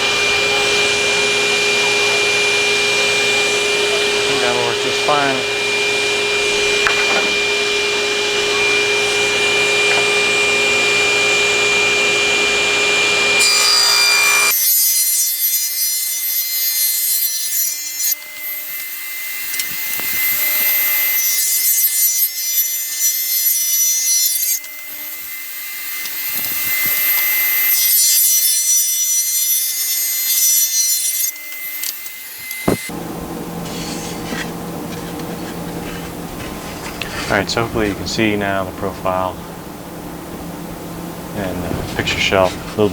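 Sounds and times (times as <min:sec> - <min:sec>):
table saw cutting wood: 0:00.0 - 0:42.9.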